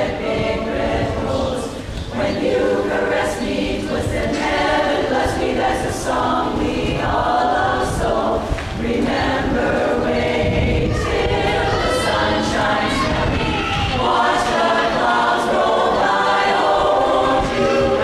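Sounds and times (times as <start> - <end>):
women's chorus singing: 0.0 - 18.0.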